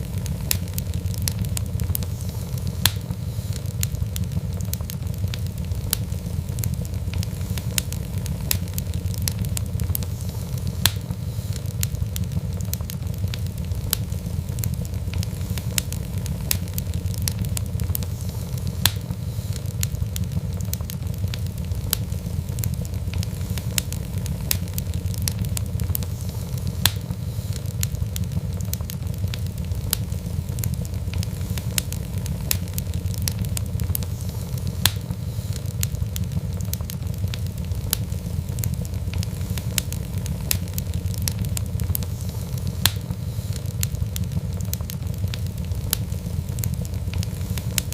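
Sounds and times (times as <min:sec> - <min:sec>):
fire crackling and popping: 0:00.0 - 0:47.9
fire flames rumbling: 0:00.0 - 0:47.9.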